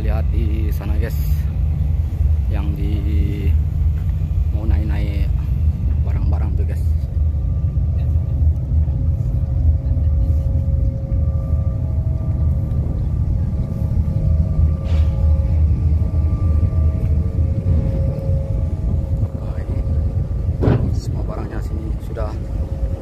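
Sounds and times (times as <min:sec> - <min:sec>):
faint constant hum: 0:00.0 - 0:23.0
ship engines rumbling: 0:00.0 - 0:23.0.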